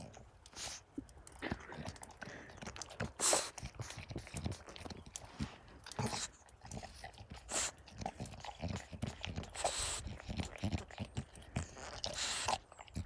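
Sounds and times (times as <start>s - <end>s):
dog crunching and chewing snow: 0.0s - 13.0s.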